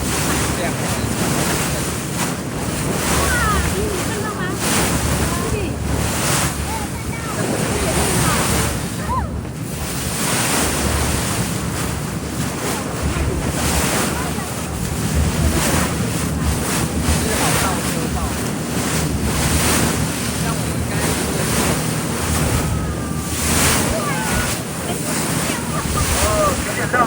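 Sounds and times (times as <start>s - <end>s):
boat engine humming: 0.0s - 27.0s
sea water splashing: 0.0s - 27.0s
wind buffeting microphone: 0.0s - 27.0s.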